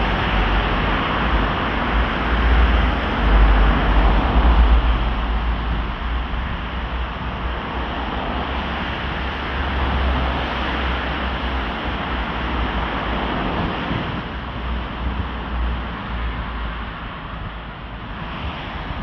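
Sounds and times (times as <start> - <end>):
road traffic: 0.0 - 19.0
wind on microphone: 0.0 - 19.0.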